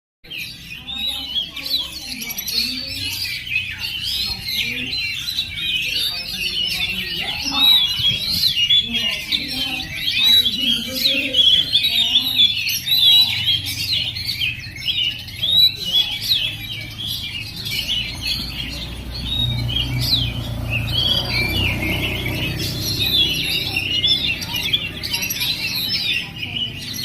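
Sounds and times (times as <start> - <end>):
bird whistling and trilling: 0.5 - 27.0.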